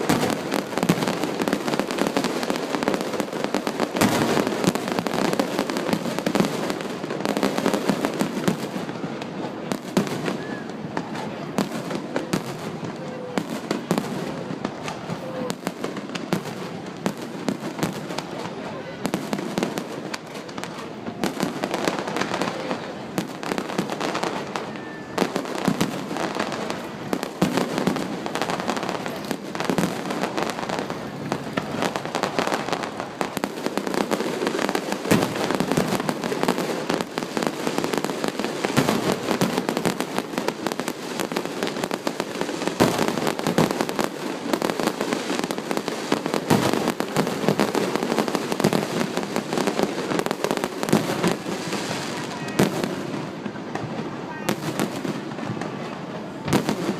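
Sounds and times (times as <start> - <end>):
fireworks bangs and crackling: 0.0 - 56.9.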